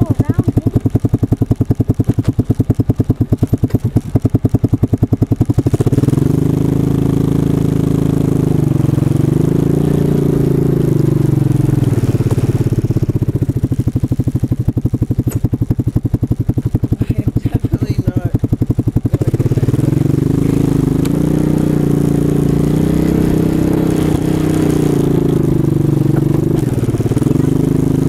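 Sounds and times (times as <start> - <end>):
atv engine chugging: 0.0 - 28.0.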